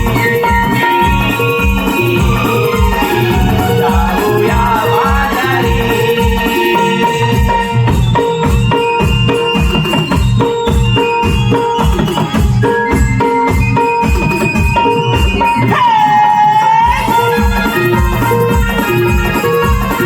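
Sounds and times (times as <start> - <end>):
drum steady beat: 0.0 - 20.0
jingling percussion: 0.0 - 20.0.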